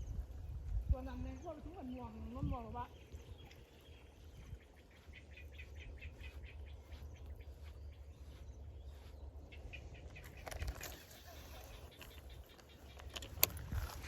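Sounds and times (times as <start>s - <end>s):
small bird chirping: 0.0s - 14.0s
wind rumble on microphone: 0.0s - 14.0s.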